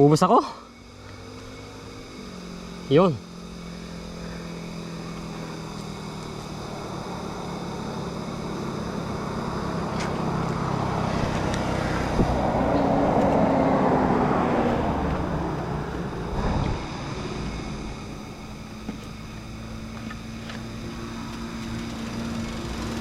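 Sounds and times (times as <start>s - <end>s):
vehicle passing on road: 0.7s - 23.0s.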